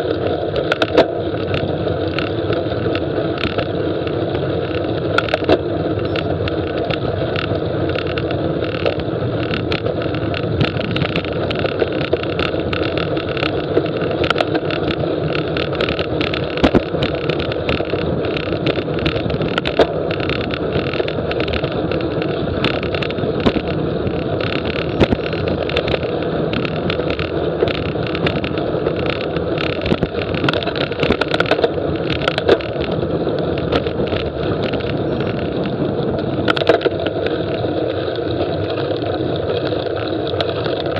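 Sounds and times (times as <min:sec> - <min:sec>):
bicycle clicks and rattles: 0:00.0 - 0:40.9
wind and road noise: 0:00.0 - 0:40.9.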